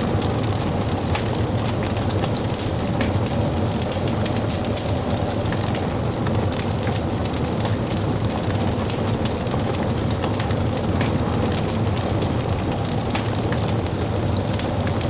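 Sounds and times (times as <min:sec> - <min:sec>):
flames rushing: 0:00.0 - 0:15.0
wood crackling and popping: 0:00.0 - 0:15.0.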